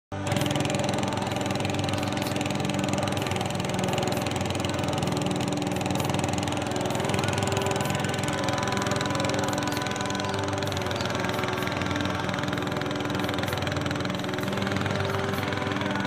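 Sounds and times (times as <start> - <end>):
boat engine droning: 0.1 - 16.0.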